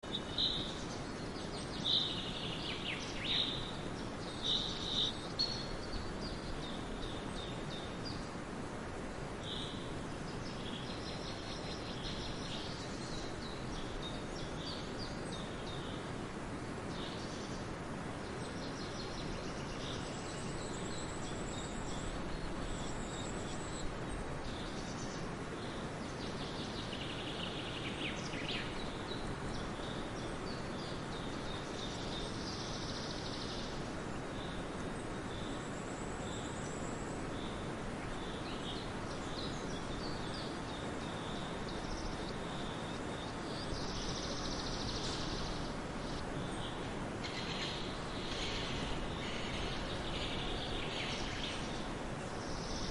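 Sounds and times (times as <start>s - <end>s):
small birds chirping: 0.0s - 52.9s
steady background hiss: 0.0s - 52.9s.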